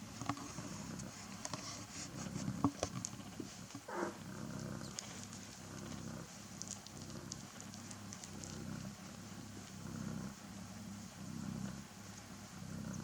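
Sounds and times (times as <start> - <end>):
cats purring: 0.0 - 13.0.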